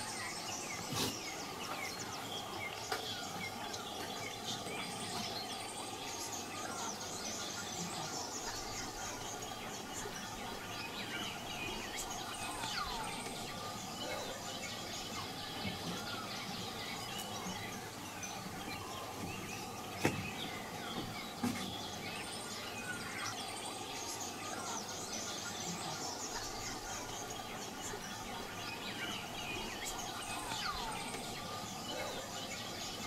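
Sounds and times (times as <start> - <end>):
birds chirping and calling: 0.0 - 33.0
insect hum: 0.0 - 33.0.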